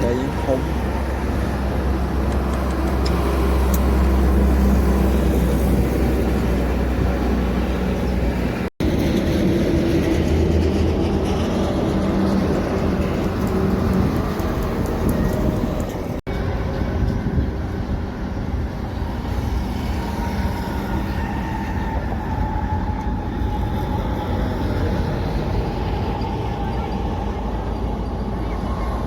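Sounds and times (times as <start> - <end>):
heavy truck engine rumble: 0.0 - 29.0
road noise: 0.0 - 29.0.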